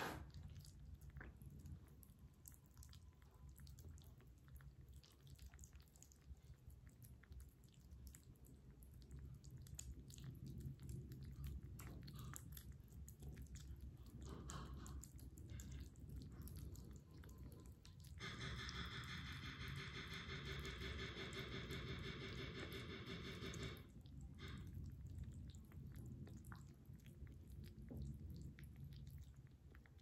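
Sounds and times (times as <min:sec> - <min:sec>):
kittens chewing food: 0:00.0 - 0:30.0.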